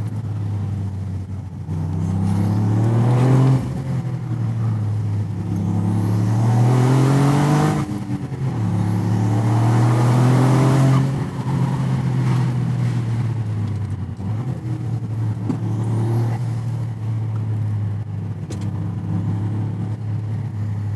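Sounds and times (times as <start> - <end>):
car engine accelerating: 0.0 - 20.4.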